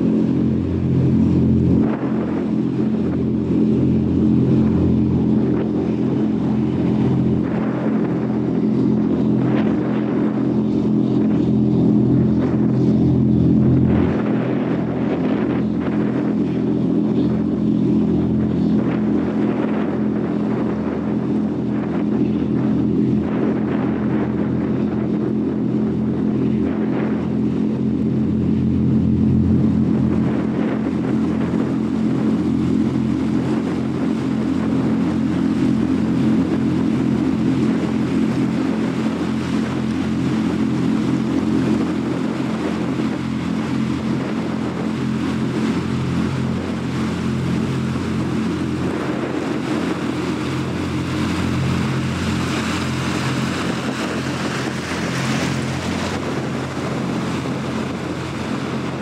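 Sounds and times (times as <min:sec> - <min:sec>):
ferry engines droning: 0:00.0 - 0:59.0
rushing bow wave and wake: 0:00.0 - 0:59.0.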